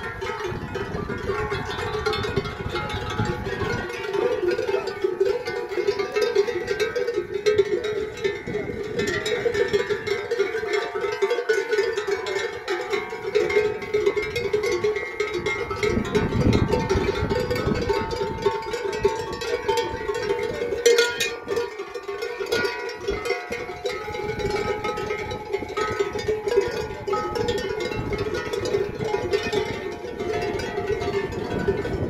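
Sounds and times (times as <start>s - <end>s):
cowbells clanking: 0.0s - 32.0s.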